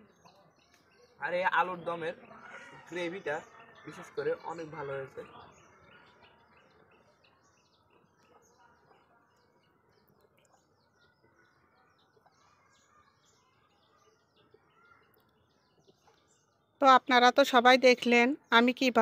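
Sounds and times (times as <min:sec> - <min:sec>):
faint birds chirping: 0:00.0 - 0:19.0
quiet outdoor background noise: 0:00.0 - 0:19.0.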